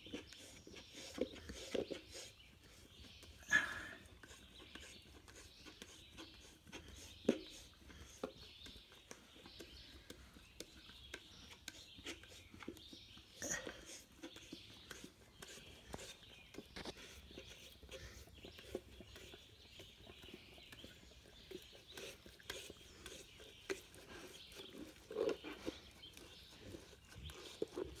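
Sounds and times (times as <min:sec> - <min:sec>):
dog licking in plastic jar: 0:00.0 - 0:03.4, 0:04.0 - 0:28.0.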